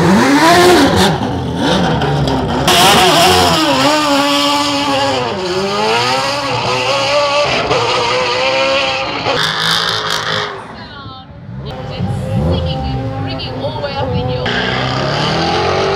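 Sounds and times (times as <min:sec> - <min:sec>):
race car engine accelerating: 0:00.0 - 0:10.8, 0:11.4 - 0:15.9.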